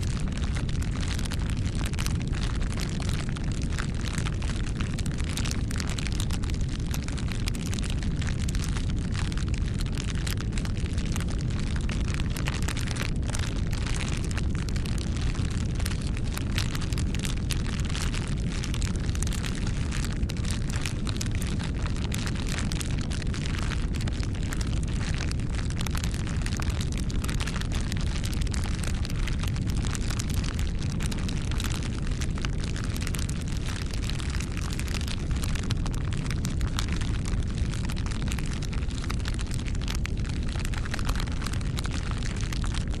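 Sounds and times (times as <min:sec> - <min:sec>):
bonfire crackling and popping: 0:00.0 - 0:43.0.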